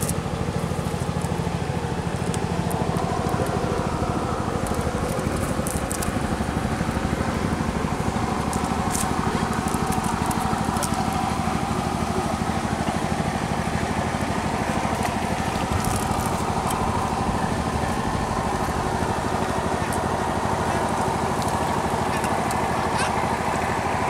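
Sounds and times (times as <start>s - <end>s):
engine droning steadily: 0.0s - 24.0s.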